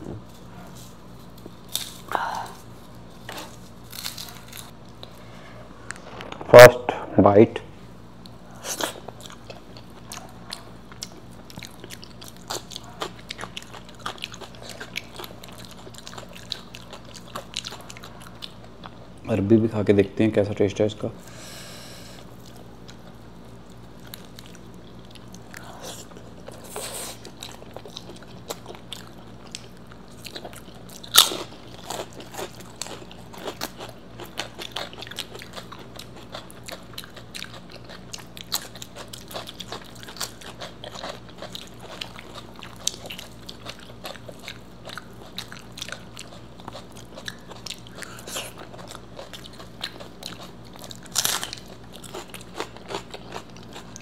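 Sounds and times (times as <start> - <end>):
crunchy chewing: 0.2 - 6.7, 8.2 - 19.2, 22.2 - 54.0.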